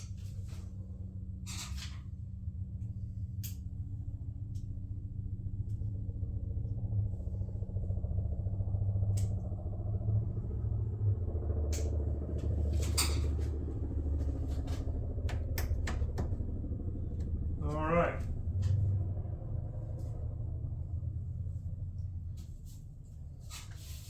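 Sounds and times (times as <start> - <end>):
motor rumble: 0.0 - 24.0.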